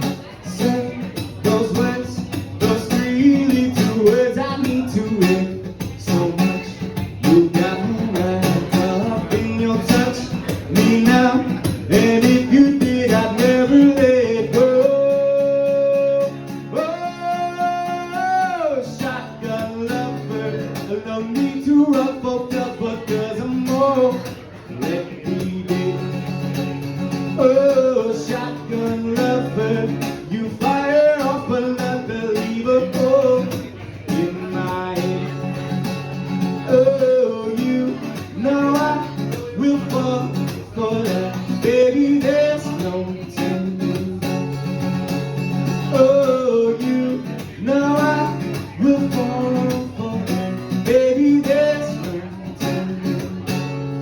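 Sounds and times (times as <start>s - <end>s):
guitar playing: 0.0s - 54.0s.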